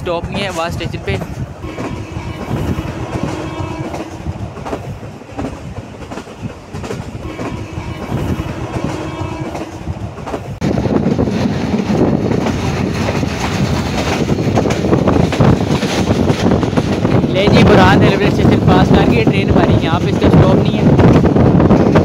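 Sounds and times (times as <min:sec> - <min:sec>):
clickety-clack over rail joints: 0:00.0 - 0:22.0
train wheels rumbling on rails: 0:00.0 - 0:22.0.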